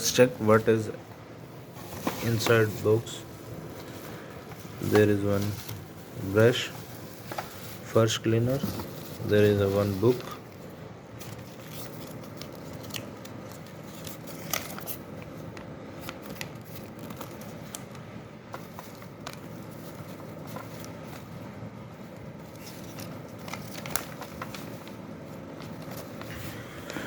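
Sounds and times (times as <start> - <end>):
packaging rustling and crinkling: 1.6 - 27.0.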